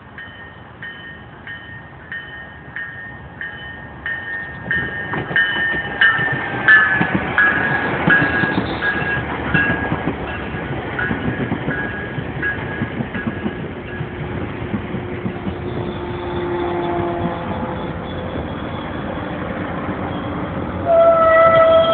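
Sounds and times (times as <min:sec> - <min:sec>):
train rumbling along rails: 0:00.0 - 0:21.9.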